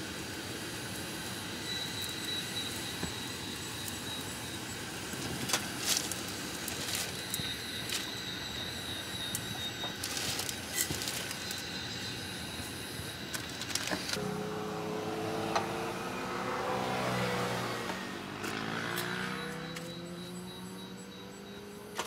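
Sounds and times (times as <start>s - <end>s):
gas burner hissing: 0.0s - 20.7s.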